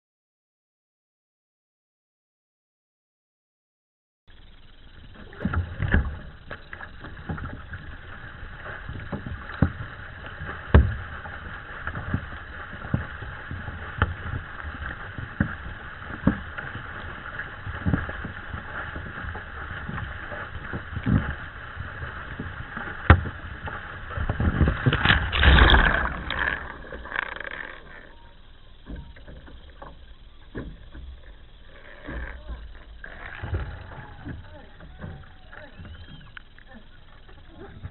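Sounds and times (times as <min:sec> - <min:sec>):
muffled underwater sound: 0:04.3 - 0:37.9
water rushing along hull: 0:04.4 - 0:37.9
paddle splashes: 0:04.6 - 0:37.9
water churning: 0:04.6 - 0:37.9.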